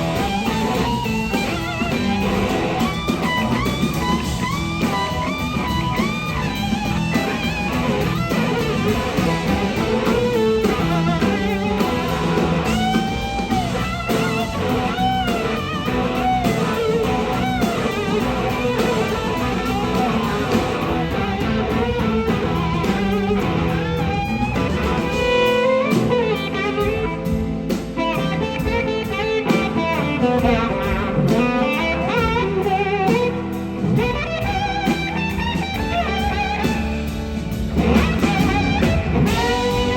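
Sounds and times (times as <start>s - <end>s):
electric slide guitar solo: 0.0s - 27.3s, 28.0s - 39.9s
blues-rock band with drums: 0.0s - 39.9s.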